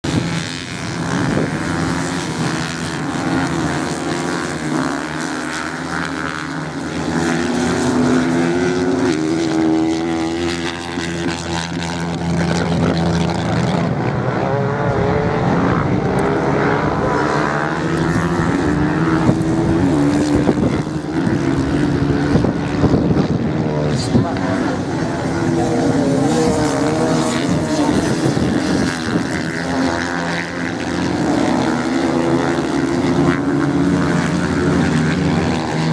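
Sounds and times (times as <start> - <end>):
motorcycle engines revving: 0.0 - 35.9.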